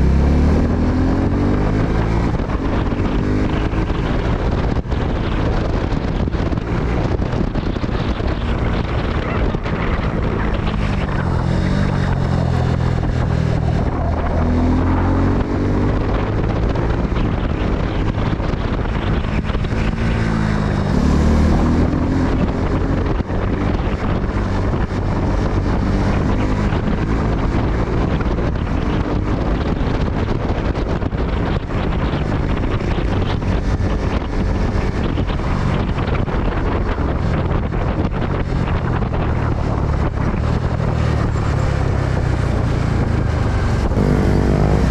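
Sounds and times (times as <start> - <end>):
motorcycle engine accelerating: 0.0 - 44.9
wind noise on microphone: 0.0 - 44.9.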